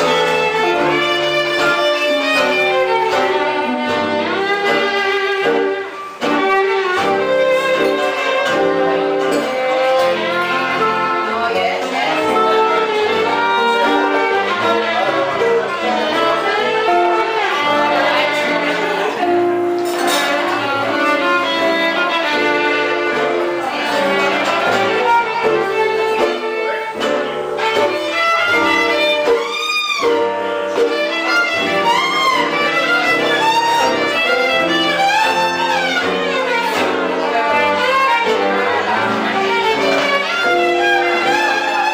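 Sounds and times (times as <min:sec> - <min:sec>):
violin playing fast runs: 0:00.0 - 0:19.4, 0:20.0 - 0:41.9
guitar accompaniment: 0:00.0 - 0:41.9.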